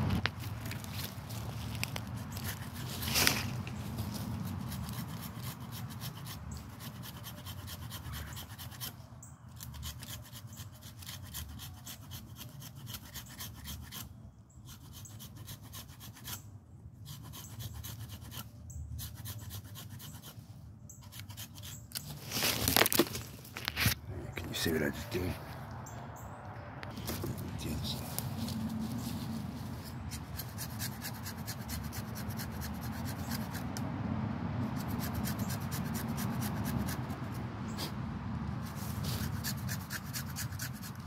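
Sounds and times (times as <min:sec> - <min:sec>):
knife scraping bark and wood: 0:00.0 - 0:25.8, 0:26.9 - 0:33.9, 0:34.6 - 0:41.0.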